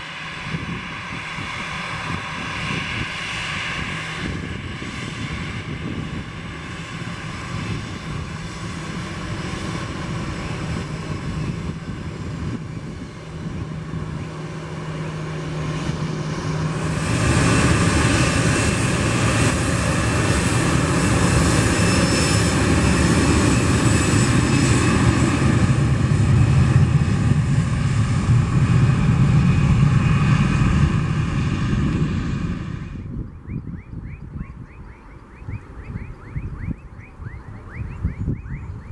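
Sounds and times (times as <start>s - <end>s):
jet engines whining and rumbling: 0.0s - 38.9s.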